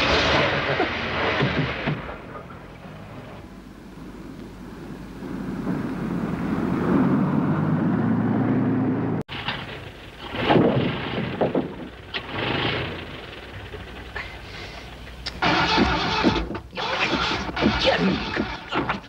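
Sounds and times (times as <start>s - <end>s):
car engine starting and running: 0.0s - 19.0s.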